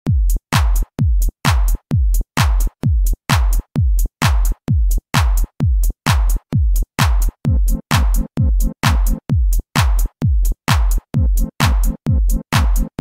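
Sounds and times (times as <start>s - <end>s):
drum machine kick: 0.0s - 13.0s
electronic dance music: 0.1s - 13.0s.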